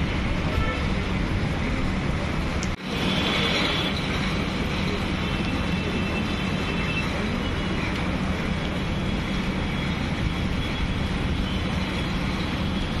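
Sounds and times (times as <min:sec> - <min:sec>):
heavy rain on flooded pavement: 0:00.0 - 0:13.0.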